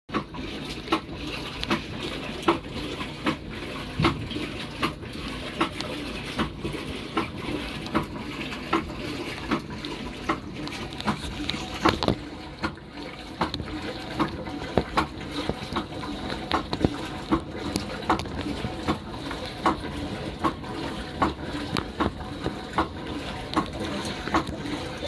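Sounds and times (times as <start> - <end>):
washing machine water rushing: 0.1 - 25.0.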